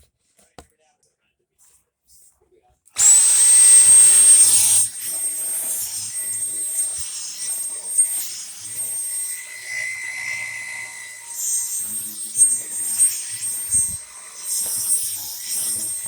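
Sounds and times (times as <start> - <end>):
vacuum cleaner running: 3.0 - 16.0.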